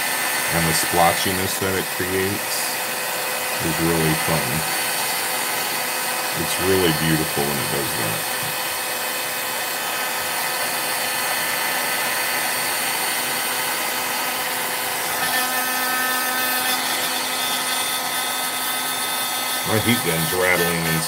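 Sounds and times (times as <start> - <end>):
heat gun blowing air: 0.0 - 21.0.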